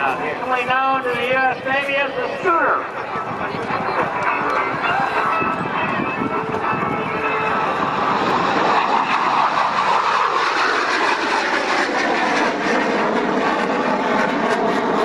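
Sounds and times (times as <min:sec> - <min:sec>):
jet engine passing low: 0:00.0 - 0:15.0.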